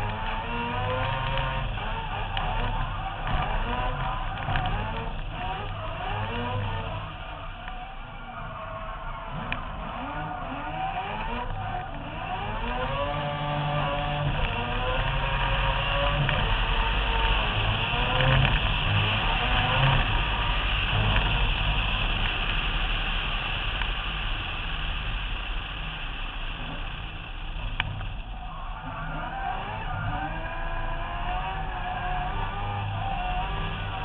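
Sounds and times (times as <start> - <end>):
rotary engine running at speed: 0.0 - 7.9, 9.3 - 28.3, 29.0 - 34.0
wind and road noise: 0.0 - 34.0.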